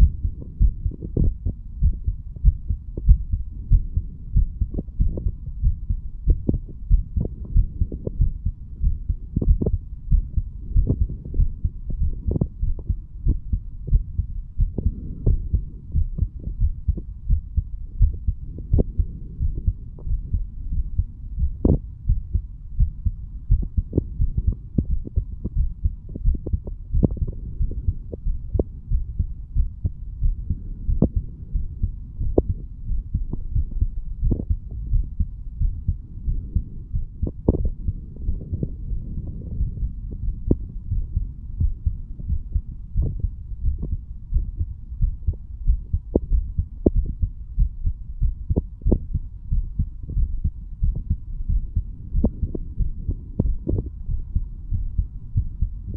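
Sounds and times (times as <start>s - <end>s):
heartbeat thumps: 0.0s - 55.9s
low rumble: 0.0s - 55.9s.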